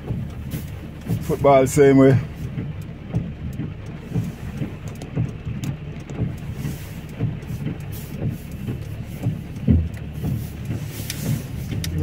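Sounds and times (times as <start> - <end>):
heavy rain rumbling: 0.0 - 12.0
sharp drip taps: 0.0 - 12.0.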